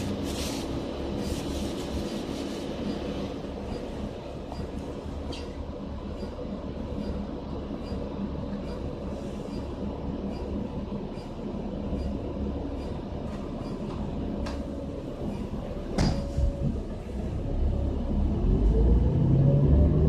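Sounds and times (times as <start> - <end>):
bus rumble from inside: 0.0 - 20.0.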